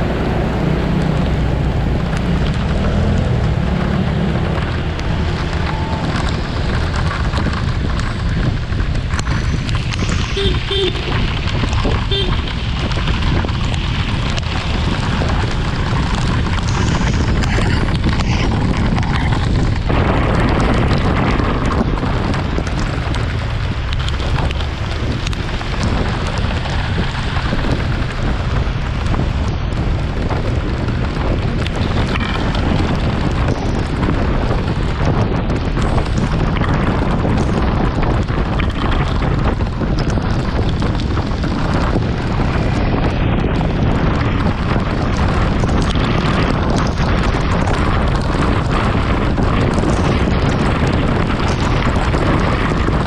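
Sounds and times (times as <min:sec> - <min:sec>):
road noise: 0:00.0 - 0:53.0
scooter engine: 0:00.0 - 0:53.0
wind buffeting microphone: 0:00.0 - 0:53.0.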